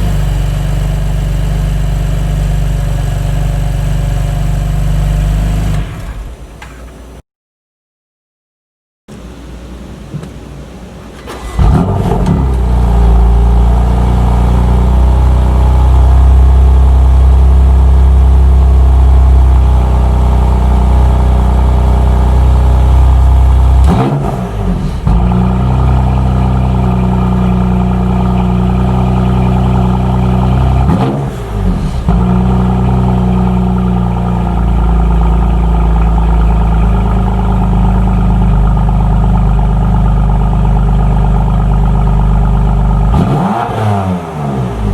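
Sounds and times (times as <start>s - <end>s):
car engine starting and idling: 0.0s - 7.2s, 9.1s - 44.9s.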